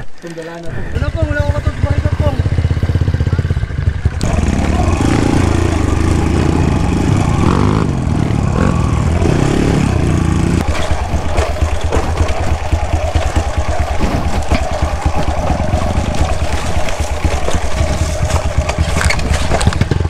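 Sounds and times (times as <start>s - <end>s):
dirt bike engine running: 0.8s - 20.0s.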